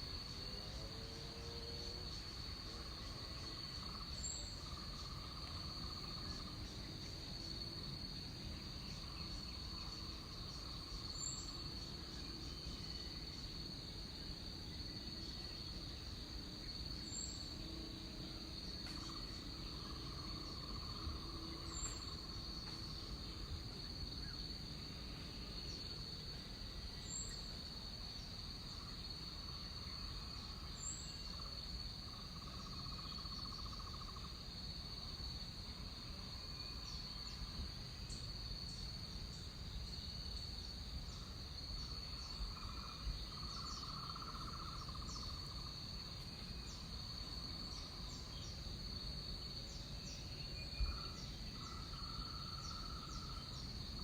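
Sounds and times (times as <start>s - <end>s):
high-pitched insect trill: 0.0s - 54.0s
lower buzzing insect trill: 0.0s - 54.0s.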